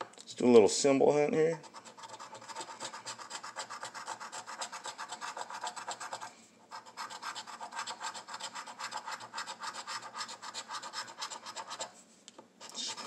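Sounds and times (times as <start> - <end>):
coin scratching lottery ticket: 1.6 - 12.0, 12.6 - 13.0.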